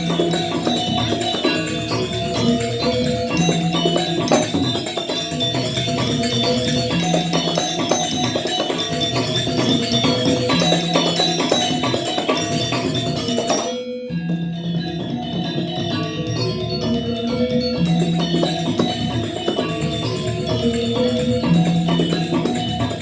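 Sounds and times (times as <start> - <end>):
gamelan playing: 0.0 - 23.0.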